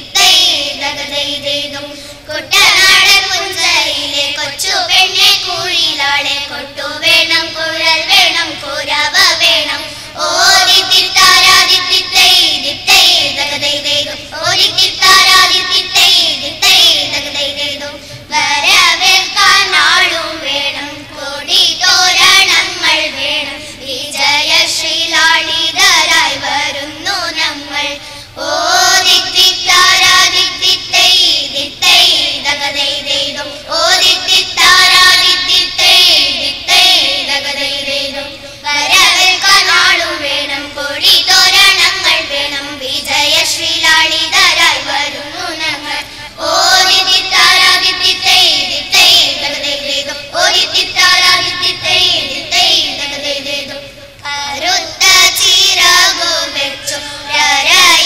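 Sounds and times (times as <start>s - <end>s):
children singing: 0.0s - 58.0s.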